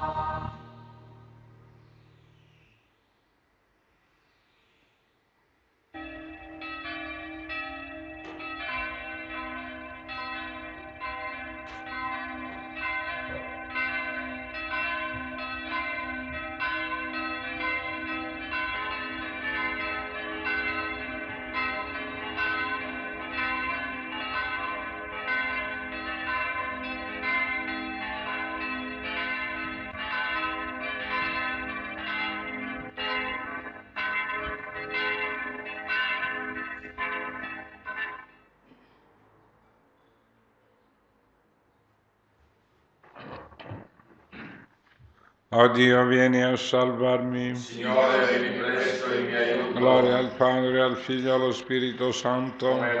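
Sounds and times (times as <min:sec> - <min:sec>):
church bells ringing: 0:00.0 - 0:02.2, 0:06.0 - 0:38.9, 0:45.6 - 0:53.0.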